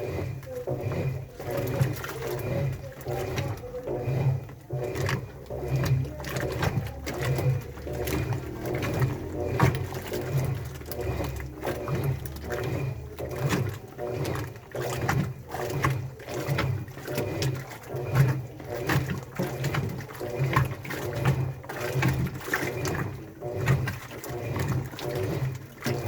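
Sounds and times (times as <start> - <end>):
low motor hum: 0.0 - 26.0
washing machine drum churning: 0.0 - 26.0.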